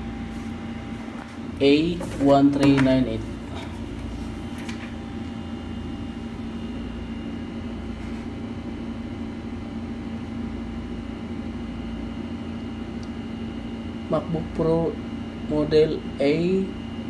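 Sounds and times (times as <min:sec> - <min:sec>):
workshop machine hum: 0:00.0 - 0:17.0.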